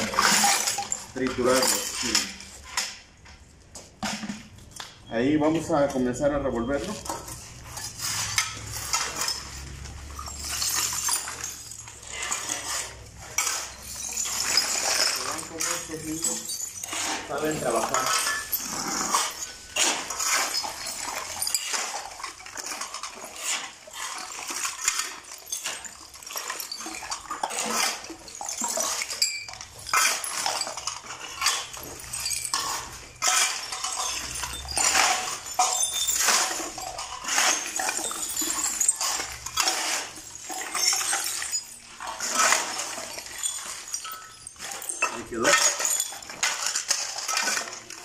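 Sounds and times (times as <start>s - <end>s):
glass and cans clinking: 0.0s - 48.0s
shovels scraping concrete floor: 0.0s - 48.0s.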